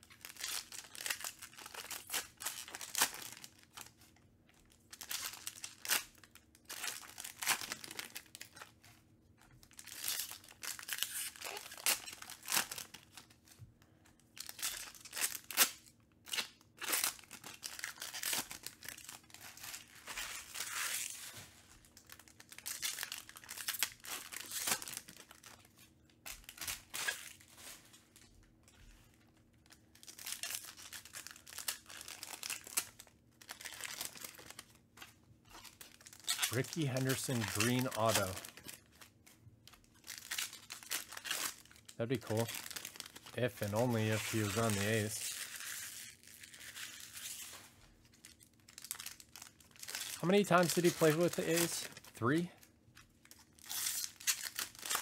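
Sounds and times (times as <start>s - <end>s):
foil wrappers tearing and crinkling: 0.0s - 4.0s, 4.8s - 8.8s, 9.6s - 13.5s, 14.3s - 28.2s, 29.6s - 34.8s, 35.5s - 52.4s, 53.0s - 55.0s.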